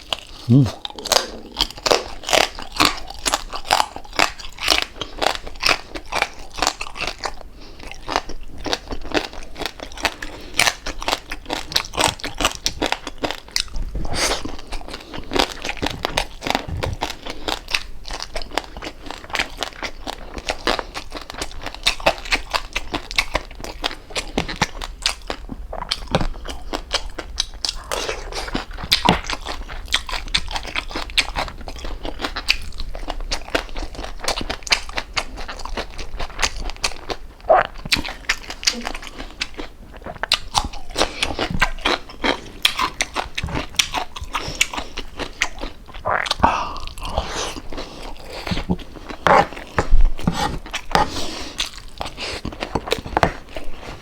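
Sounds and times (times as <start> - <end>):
crunchy chewing close up: 0.0 - 54.0.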